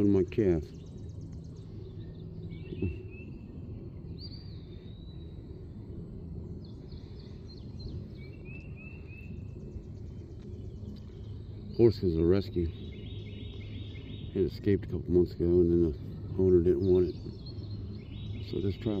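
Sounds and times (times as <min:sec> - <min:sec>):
birdsong: 0:00.0 - 0:19.0
low background noise: 0:00.0 - 0:19.0.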